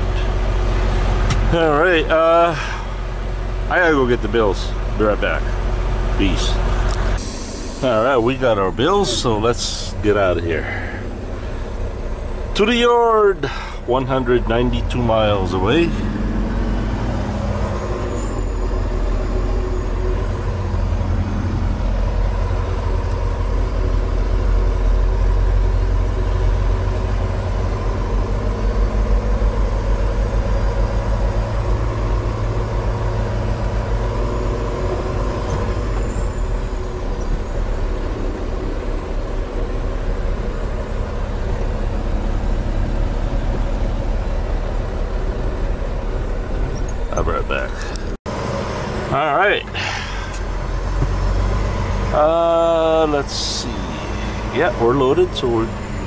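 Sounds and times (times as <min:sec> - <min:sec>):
truck diesel engine rumble: 0:00.0 - 0:56.0.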